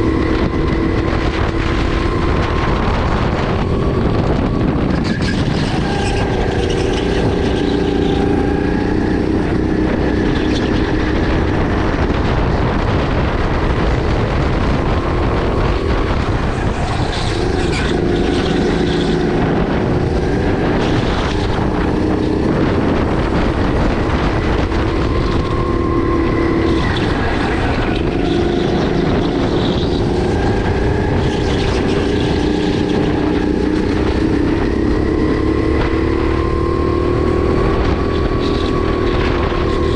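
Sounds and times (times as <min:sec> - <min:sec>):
kart engine revving: 0:00.0 - 0:39.9
road and wind noise: 0:00.0 - 0:39.9.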